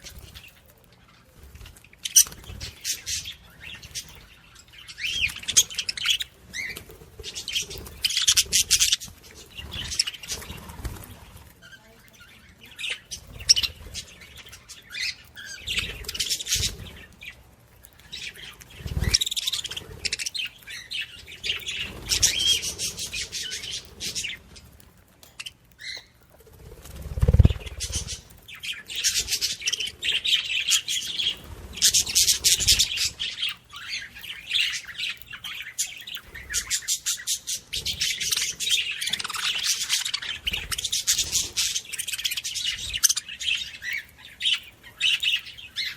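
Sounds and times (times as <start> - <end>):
birds chirping and chattering: 0.0 - 45.9.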